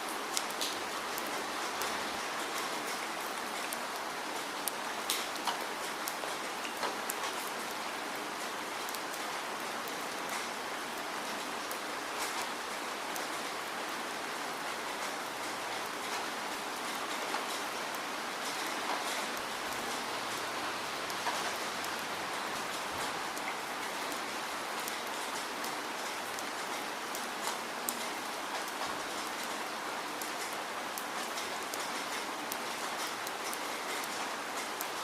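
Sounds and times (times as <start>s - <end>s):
steady rain hissing: 0.0s - 35.0s.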